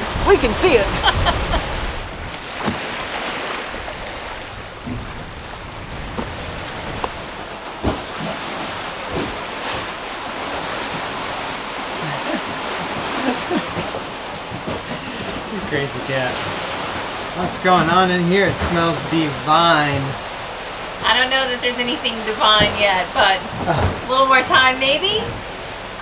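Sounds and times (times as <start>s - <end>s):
wind and sea water rushing: 0.0s - 26.0s.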